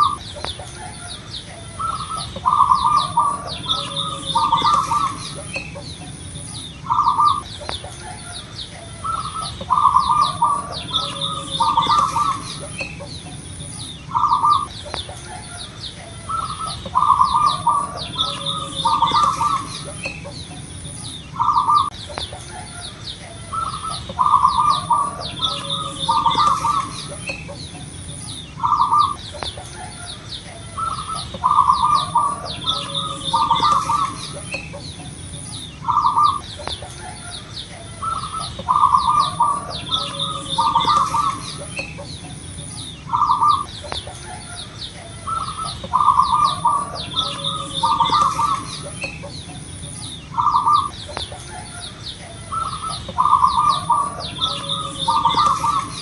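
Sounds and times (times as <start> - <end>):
dove cooing: 0.0 - 56.0
small birds chirping: 0.0 - 56.0.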